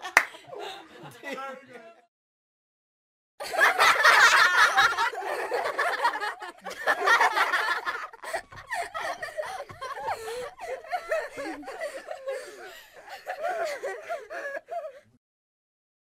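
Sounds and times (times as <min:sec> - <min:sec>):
group of people laughing: 0:00.0 - 0:02.1, 0:03.4 - 0:15.2.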